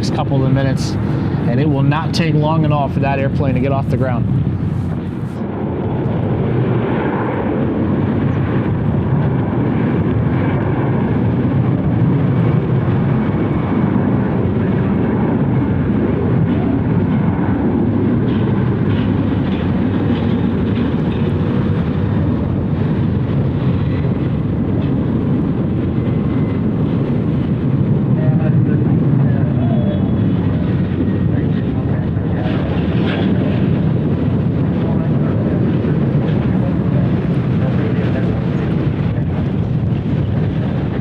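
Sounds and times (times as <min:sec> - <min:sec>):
jet engines at takeoff thrust: 0:00.0 - 0:41.0.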